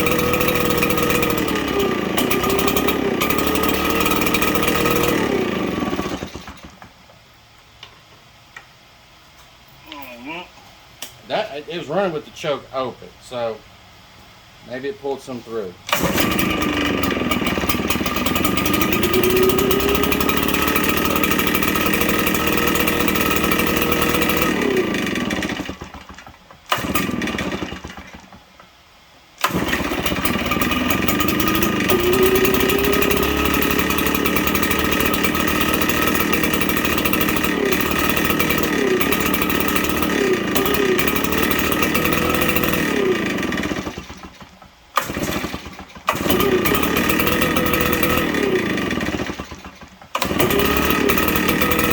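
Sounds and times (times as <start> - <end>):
leaf blower engine running: 0.0 - 6.9, 15.5 - 28.5, 29.4 - 51.9.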